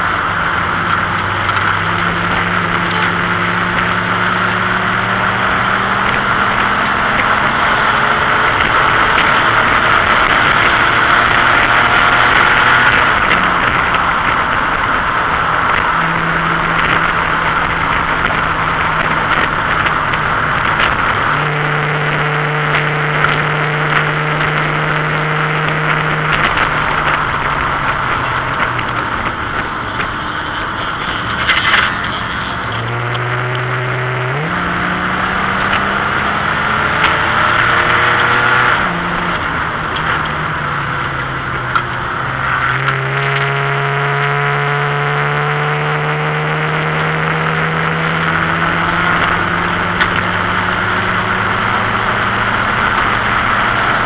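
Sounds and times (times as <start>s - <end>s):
car engine running under load: 0.0s - 54.0s
wind and road noise: 0.0s - 54.0s.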